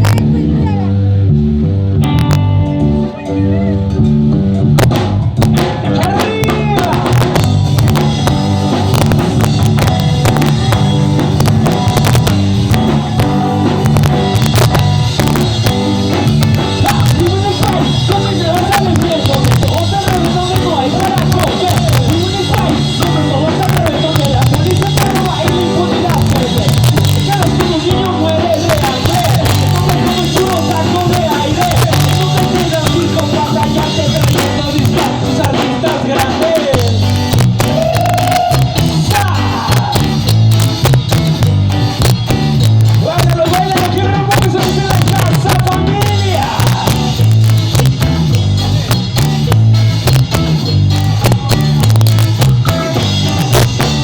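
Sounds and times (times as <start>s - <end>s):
live ska band through loudspeakers: 0.0s - 54.0s.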